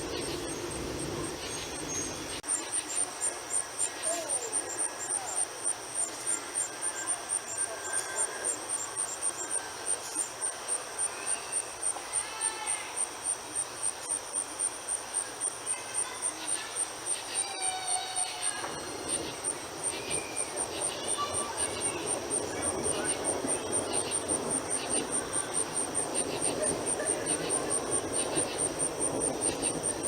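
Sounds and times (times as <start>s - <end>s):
insects chirping pulse: 0.0s - 30.0s
steady high insect trill: 0.0s - 30.0s.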